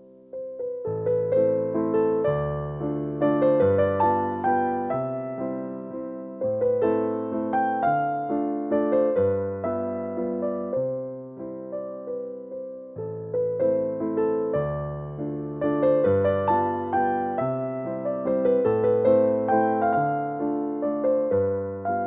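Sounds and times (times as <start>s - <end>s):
keyboard chords and melody: 0.0s - 22.0s.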